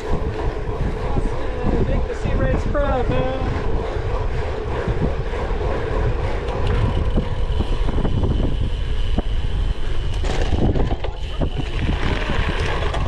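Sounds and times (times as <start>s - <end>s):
bike rattling and knocking: 0.0s - 13.0s
wind buffeting microphone: 0.0s - 13.0s.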